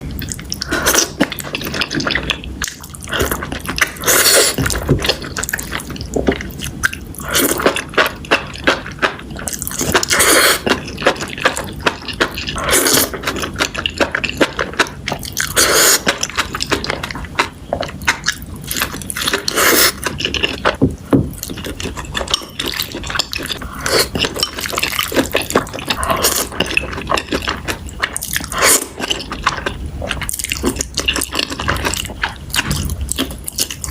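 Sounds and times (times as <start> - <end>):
wet chewing: 0.1 - 33.9.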